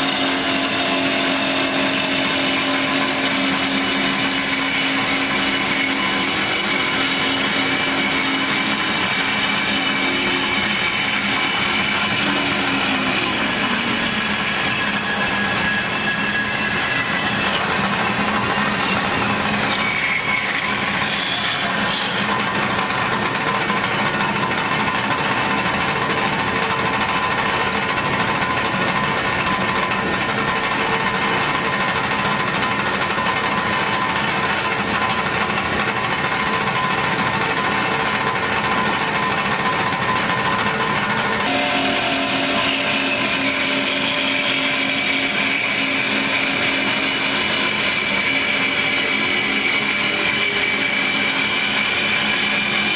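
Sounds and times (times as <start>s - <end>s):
band saw cutting metal tubes: 0.0s - 52.9s.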